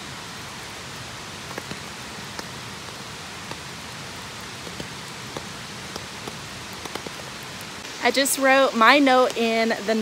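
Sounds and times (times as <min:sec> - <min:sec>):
hiss of falling water: 0:00.0 - 0:10.0.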